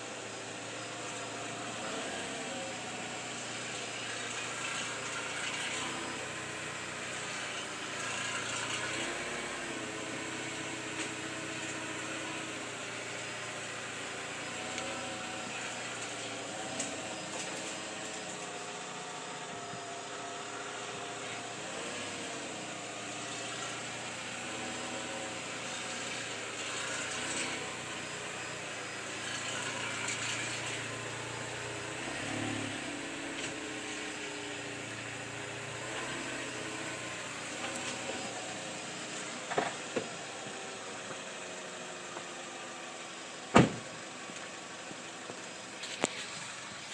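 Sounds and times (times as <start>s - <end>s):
car engine humming: 0.0s - 46.9s.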